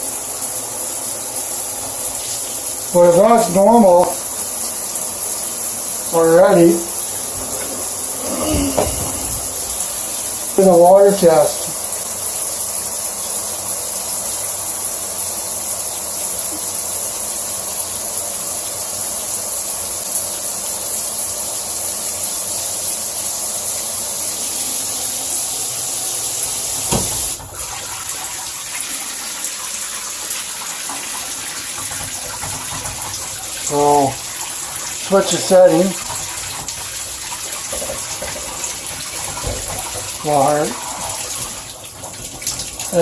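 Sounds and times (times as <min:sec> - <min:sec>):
water spraying from shower head: 0:00.0 - 0:27.6, 0:31.0 - 0:43.0.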